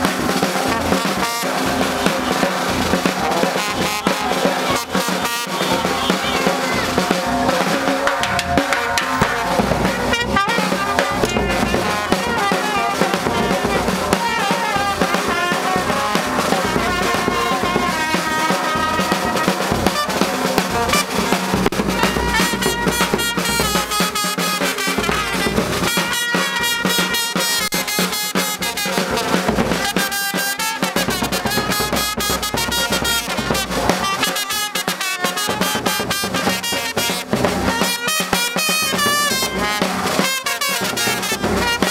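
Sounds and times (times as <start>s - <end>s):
brass band playing: 0.0s - 41.9s
snare and bass drums: 0.0s - 41.9s.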